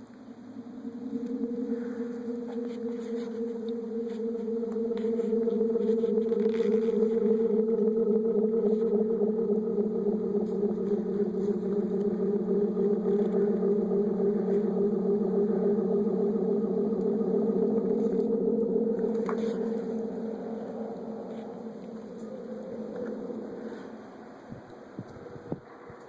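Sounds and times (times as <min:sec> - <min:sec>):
fluttering radio drone: 0:00.0 - 0:26.0.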